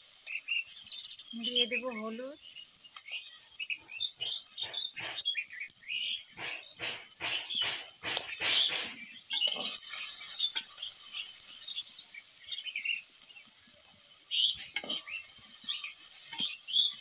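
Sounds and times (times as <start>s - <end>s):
onions frying with a hiss: 0.0s - 17.0s
birds chirping: 0.1s - 17.0s.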